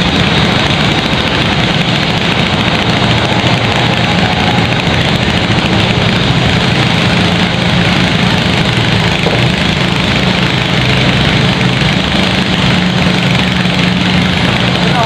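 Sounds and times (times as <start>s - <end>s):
dense rattling: 0.0s - 15.0s
engine idling: 0.0s - 15.0s.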